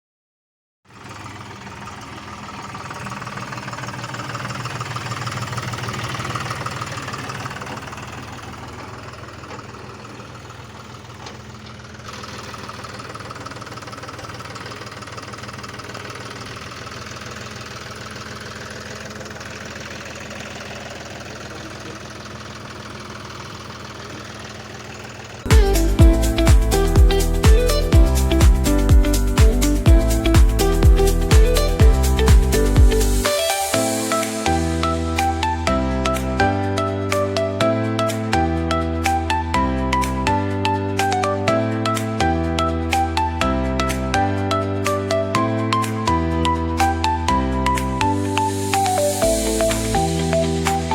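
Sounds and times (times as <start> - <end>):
tractor engine running: 0.9 - 50.9.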